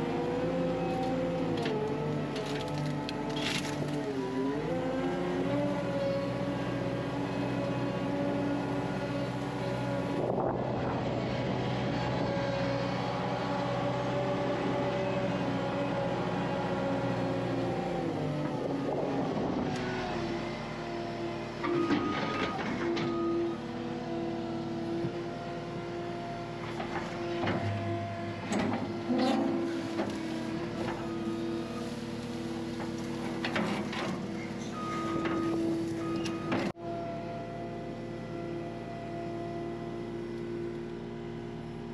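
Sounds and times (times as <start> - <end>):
engine whine: 0.0 - 41.9
skid steer engine running: 0.0 - 41.9.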